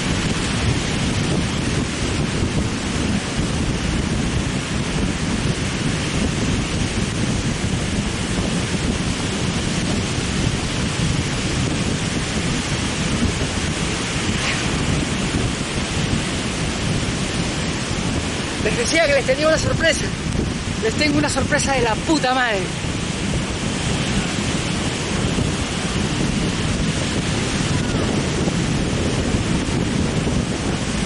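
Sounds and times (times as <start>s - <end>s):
surf breaking: 0.0s - 31.0s
wind buffeting microphone: 0.0s - 31.0s.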